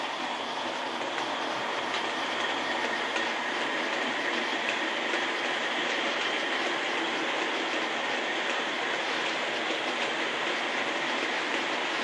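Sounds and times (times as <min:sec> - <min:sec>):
model train rumbling on rails: 0:00.0 - 0:12.0.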